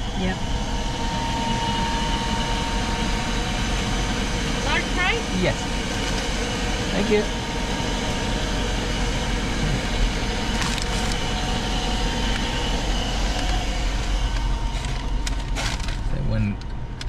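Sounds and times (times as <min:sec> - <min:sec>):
car idling rumble and hiss: 0:00.1 - 0:17.0.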